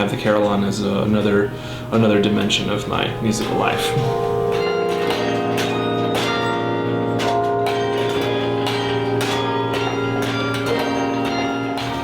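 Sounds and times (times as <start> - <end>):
carillon bells playing slow melody: 0.4 - 12.0.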